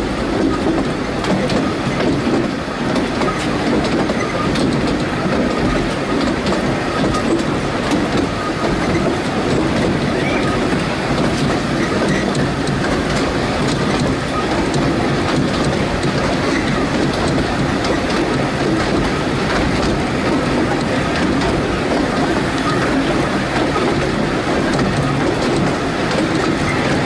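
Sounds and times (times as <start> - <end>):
train wheels rumbling on rail: 0.0 - 27.0
clicks over rail joints: 0.3 - 27.0.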